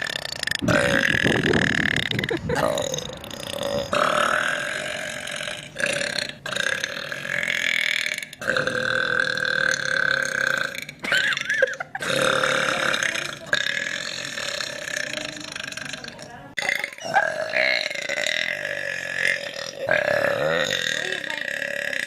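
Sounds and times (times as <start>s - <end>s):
woman burping: 0.0s - 22.0s.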